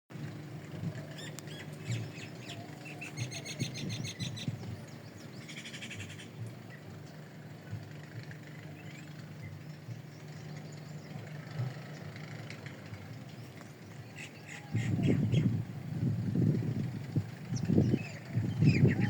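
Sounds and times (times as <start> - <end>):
steady low hum: 0.1 - 19.0
small birds chirping: 0.8 - 15.6, 17.0 - 19.0.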